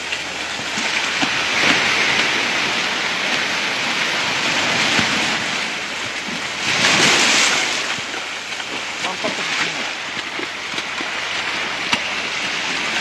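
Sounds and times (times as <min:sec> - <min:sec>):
waves breaking on rocky shore: 0:00.0 - 0:13.0.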